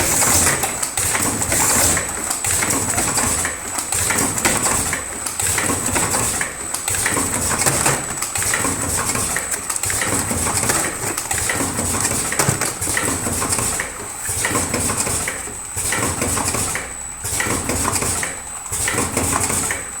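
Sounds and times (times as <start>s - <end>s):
machine clatter and clicking: 0.0s - 20.0s.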